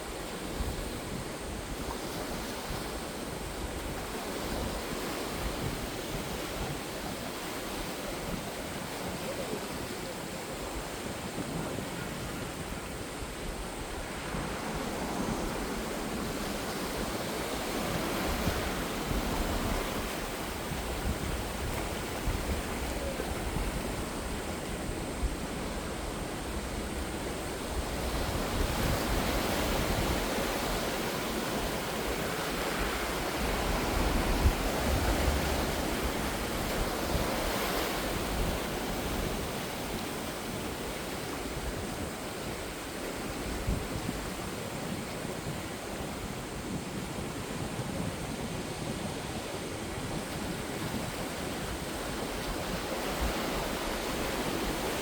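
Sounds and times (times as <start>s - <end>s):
ocean surf washing on shore: 0.0s - 55.0s.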